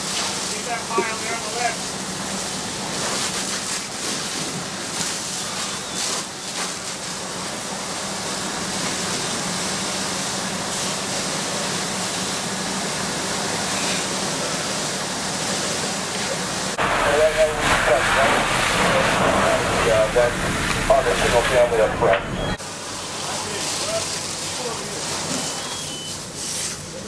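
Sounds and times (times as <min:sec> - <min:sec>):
fire crackling: 0:00.0 - 0:26.9
fire hose spraying water: 0:00.0 - 0:27.0
low steady hum: 0:00.1 - 0:23.1.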